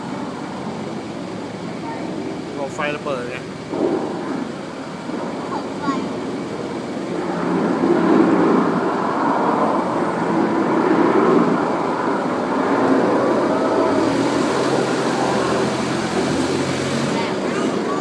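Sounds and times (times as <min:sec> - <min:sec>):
dense wash of noise: 0:00.0 - 0:18.0
low hum: 0:00.0 - 0:18.0.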